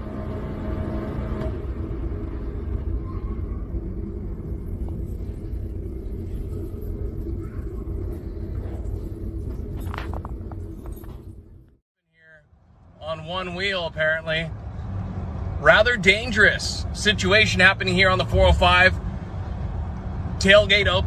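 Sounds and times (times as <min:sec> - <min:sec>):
vehicle road and engine rumble: 0:00.0 - 0:21.0.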